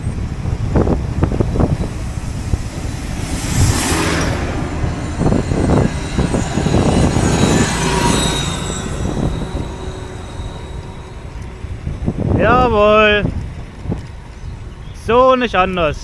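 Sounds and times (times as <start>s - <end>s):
low rumble of tires: 0.0s - 16.0s
wind rushing over microphone: 0.0s - 16.0s.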